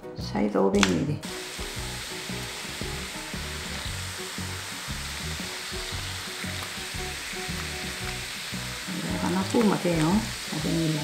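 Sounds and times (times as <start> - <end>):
soft background music: 0.0 - 11.0
soda pouring and fizzing: 1.2 - 11.0.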